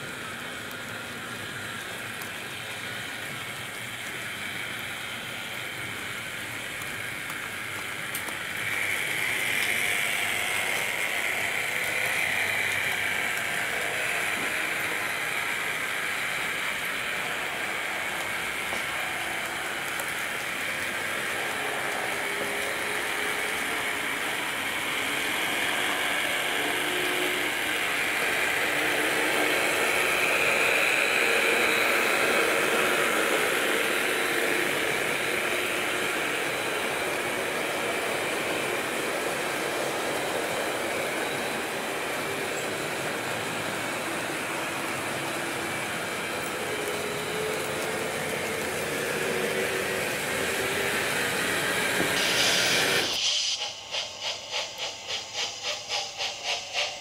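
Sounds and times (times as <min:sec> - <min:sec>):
model train whirring and rattling: 0:00.0 - 0:57.0.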